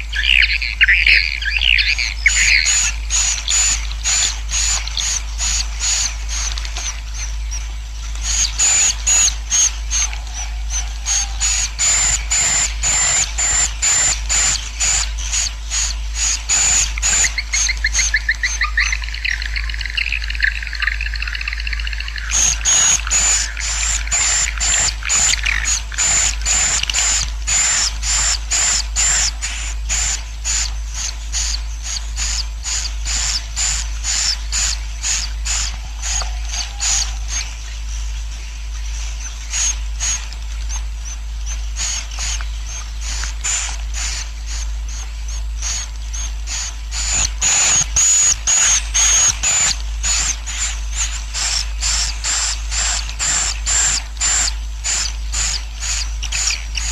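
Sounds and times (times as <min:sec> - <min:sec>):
steady low hum: 0:00.0 - 0:56.9
high sharp bird chirps: 0:00.1 - 0:37.6, 0:41.6 - 0:56.9.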